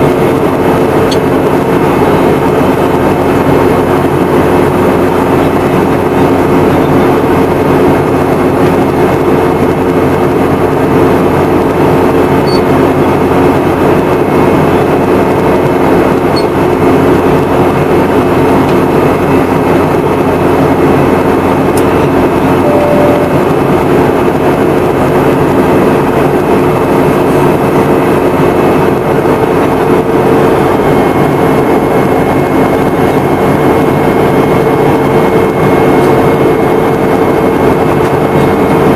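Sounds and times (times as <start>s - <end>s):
airplane cabin engine hum: 0.0s - 38.9s.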